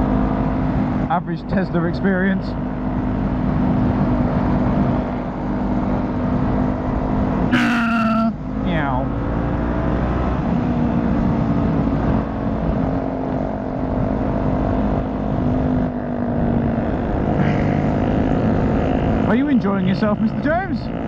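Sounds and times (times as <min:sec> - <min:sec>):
road noise: 0:00.0 - 0:21.0
motorcycle engine cruising: 0:02.5 - 0:21.0.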